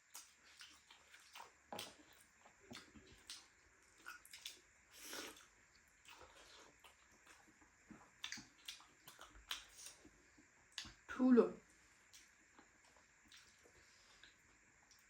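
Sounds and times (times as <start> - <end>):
wet chewing and lip-smacking: 0.0 - 11.1, 12.0 - 15.0.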